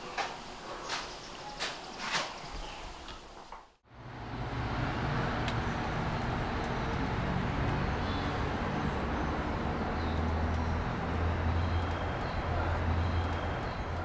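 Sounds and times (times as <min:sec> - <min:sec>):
small birds chirping: 0:00.0 - 0:03.2, 0:05.2 - 0:14.0.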